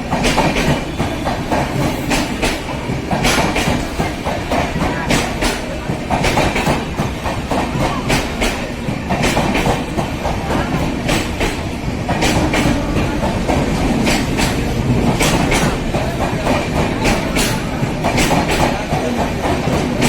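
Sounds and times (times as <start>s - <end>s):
train rolling rumble: 0.0s - 20.0s
train wheels clattering over rail joints: 0.0s - 20.0s.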